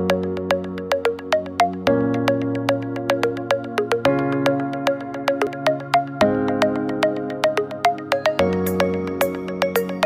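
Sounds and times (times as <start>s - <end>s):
synthesizer plucked notes: 0.0s - 10.0s.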